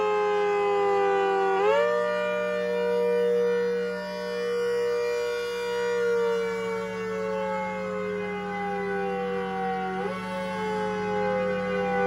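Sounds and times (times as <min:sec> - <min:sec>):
rotating siren wailing: 0:00.0 - 0:12.0.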